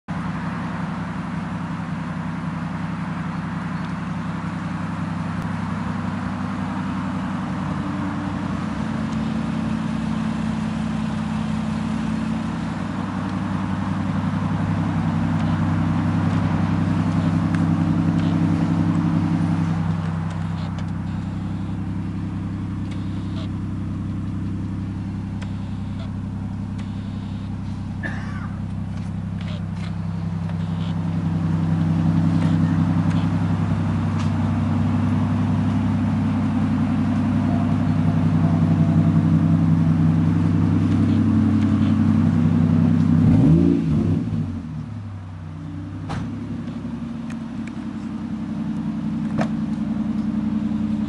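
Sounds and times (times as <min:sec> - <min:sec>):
car engine idling: 0:00.1 - 0:51.0.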